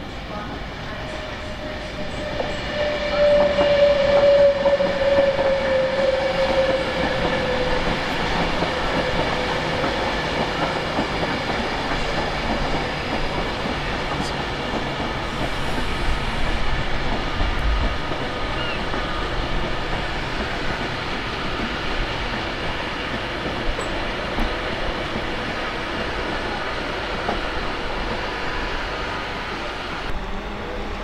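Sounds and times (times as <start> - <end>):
train running noise: 0.0 - 31.0.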